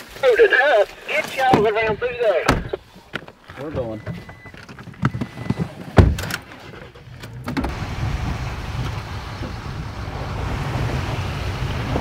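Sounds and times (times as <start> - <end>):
truck engine and tyre rumble: 0.0 - 12.0.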